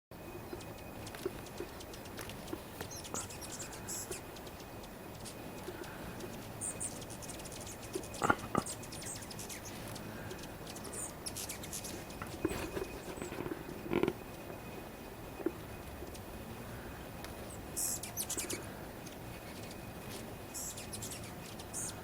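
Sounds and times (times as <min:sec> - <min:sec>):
hummingbirds squeaking and chirping: 0:00.2 - 0:22.0.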